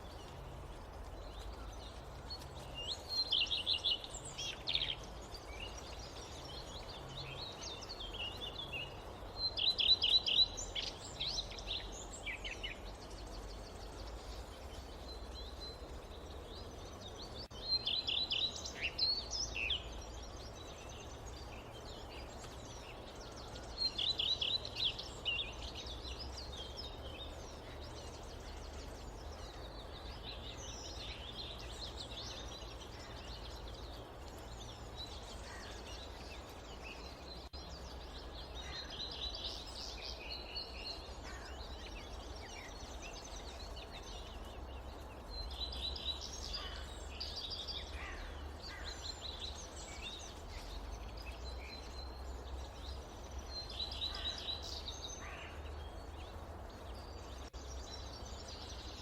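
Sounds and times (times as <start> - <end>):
songbird chirping: 0.0 - 59.0
steady background hiss: 0.0 - 59.0.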